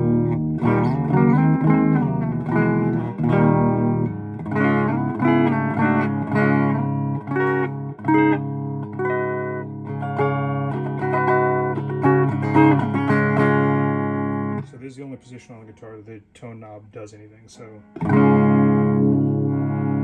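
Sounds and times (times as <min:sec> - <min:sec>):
clean electric guitar chords: 0:00.0 - 0:14.7, 0:17.8 - 0:20.0.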